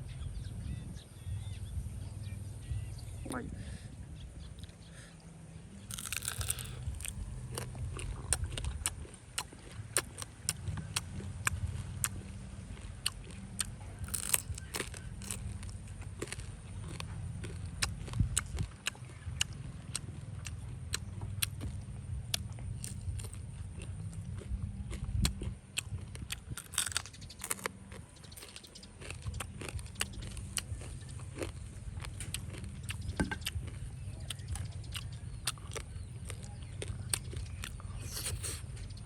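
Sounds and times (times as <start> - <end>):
low rumble: 0.0 - 39.0
person chewing crunchy food: 4.5 - 39.0.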